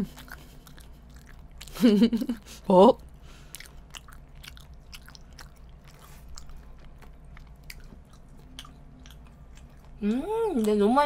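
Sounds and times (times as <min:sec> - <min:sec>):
close chewing: 0:00.0 - 0:11.0.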